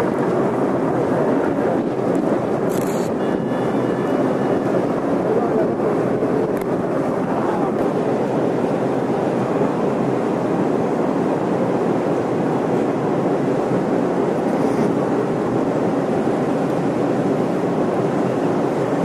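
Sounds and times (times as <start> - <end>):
sea wash: 0.0 - 19.0
wind rushing across microphone: 0.0 - 19.0.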